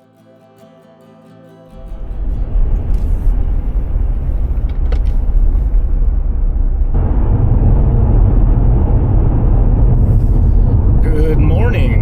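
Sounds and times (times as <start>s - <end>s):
wind rumble on microphone: 1.8s - 12.0s.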